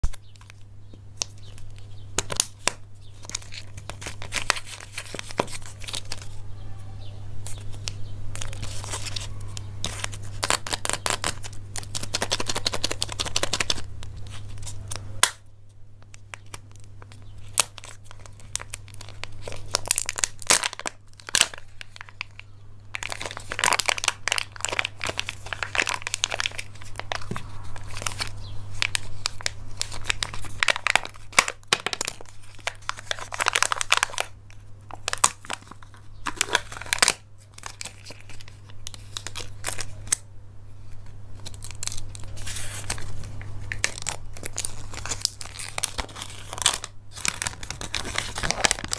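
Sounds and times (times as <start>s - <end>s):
plastic wrappers crinkling and tearing: 0.0s - 40.3s, 40.9s - 48.9s
steady low hum: 0.0s - 48.9s.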